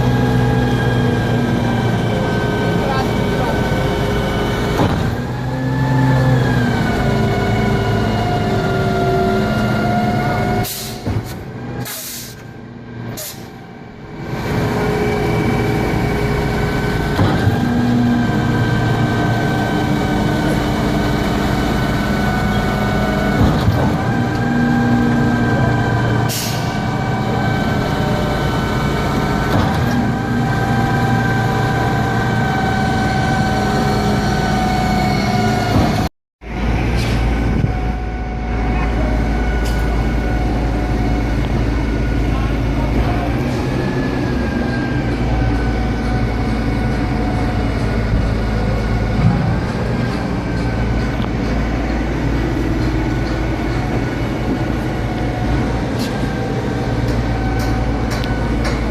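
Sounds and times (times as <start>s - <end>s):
truck diesel engine running: 0.0s - 58.9s.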